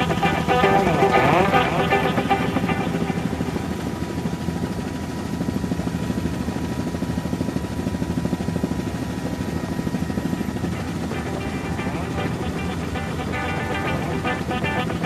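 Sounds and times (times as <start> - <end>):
faint steady whine: 0.0 - 15.0
helicopter rotor chopping: 0.0 - 15.0.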